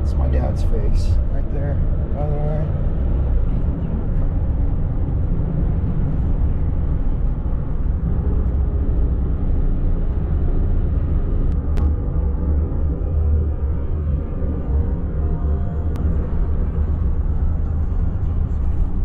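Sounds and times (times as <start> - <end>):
road and engine rumble in cab: 0.0 - 19.0.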